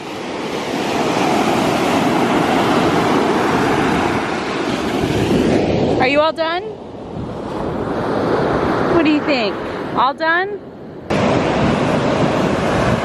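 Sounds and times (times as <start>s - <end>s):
wind on microphone: 0.0s - 10.1s, 11.0s - 13.0s
ocean surf washing in: 0.0s - 13.0s.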